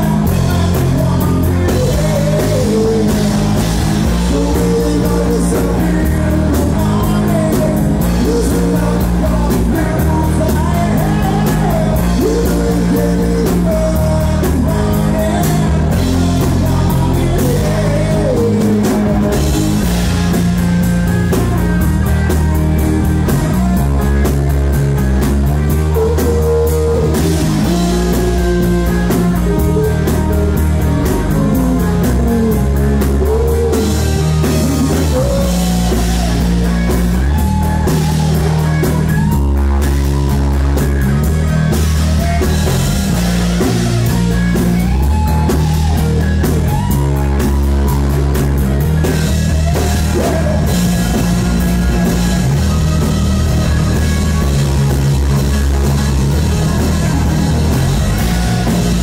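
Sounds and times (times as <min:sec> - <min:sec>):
bending lead guitar line: 0:00.0 - 0:59.0
rock band playing live: 0:00.0 - 0:59.0.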